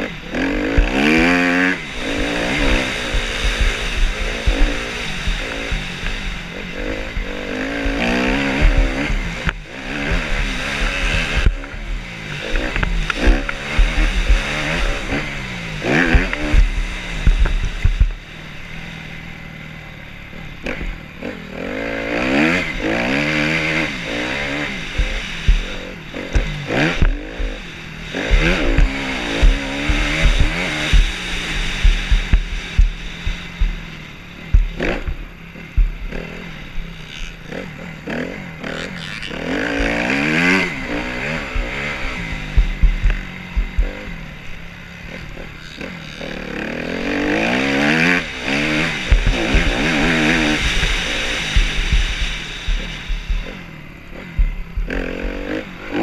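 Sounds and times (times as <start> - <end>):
wind rumble on microphone: 0.0 - 18.3, 22.5 - 37.6, 39.3 - 45.6, 47.1 - 56.0
dirt bike engine revving: 0.0 - 56.0.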